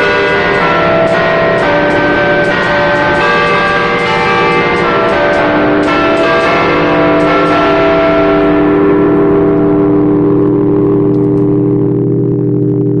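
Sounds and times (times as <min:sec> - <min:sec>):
large church bells ringing: 0:00.0 - 0:12.1.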